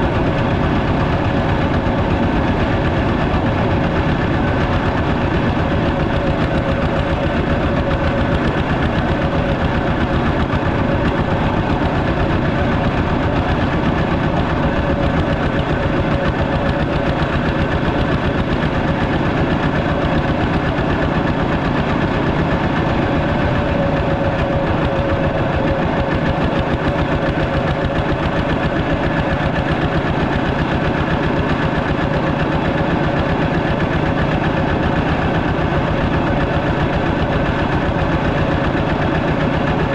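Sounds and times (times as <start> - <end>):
walking tractor engine chugging: 0.0 - 39.9.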